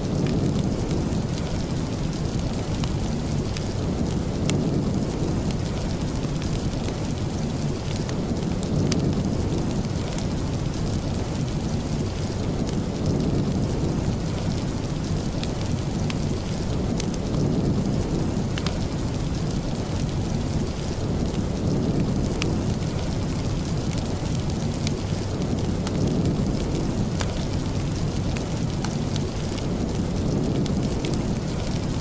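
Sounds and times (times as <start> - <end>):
crackling wood fire pops: 0.0 - 32.0
steady rain rumble: 0.0 - 32.0.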